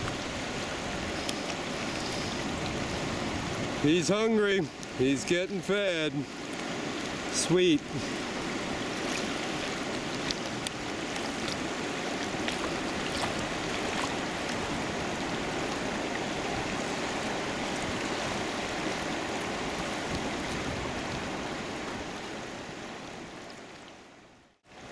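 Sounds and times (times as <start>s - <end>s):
river water flowing: 0.0s - 24.9s.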